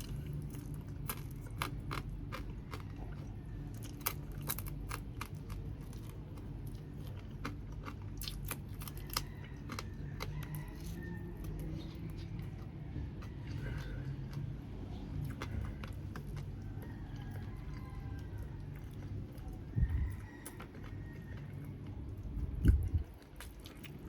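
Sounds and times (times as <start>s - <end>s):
low hum: 0.0s - 24.0s
person chewing and crunching: 0.0s - 24.0s.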